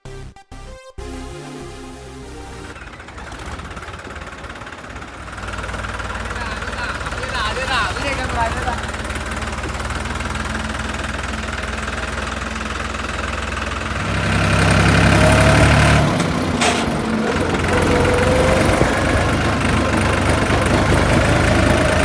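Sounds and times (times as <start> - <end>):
tractor diesel engine running: 2.2 - 22.0.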